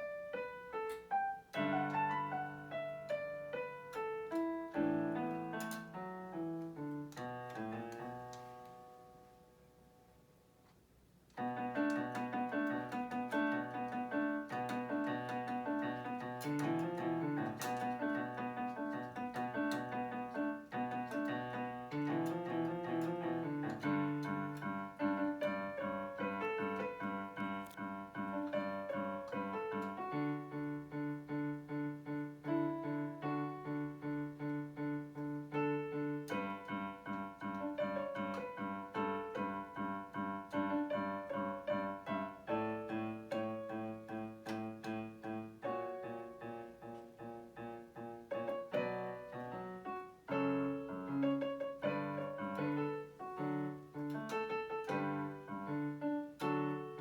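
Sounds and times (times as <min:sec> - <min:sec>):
electronic keyboard piano melody: 0:00.0 - 0:10.4, 0:11.2 - 0:57.0.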